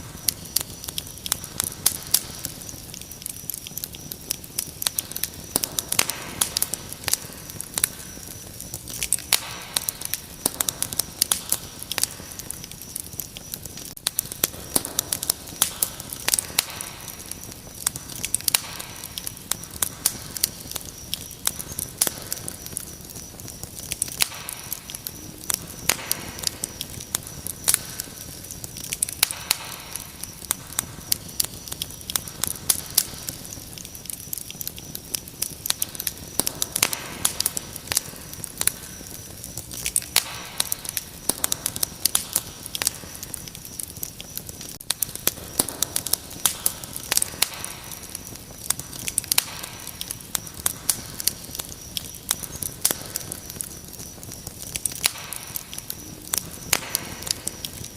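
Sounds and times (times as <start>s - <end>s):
cricket trill: 0.0s - 57.9s
wood fire crackling: 0.0s - 57.9s.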